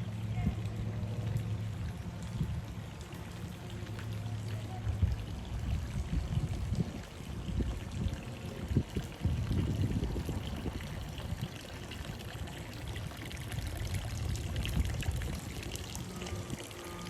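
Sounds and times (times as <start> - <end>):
fountain water pouring and splashing: 0.0 - 17.0.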